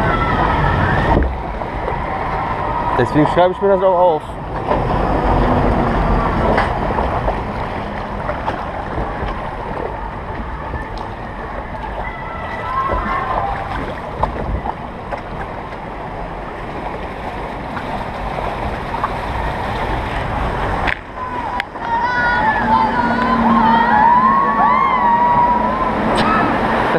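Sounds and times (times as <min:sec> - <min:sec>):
water rushing in flume trough: 0:00.0 - 0:26.9.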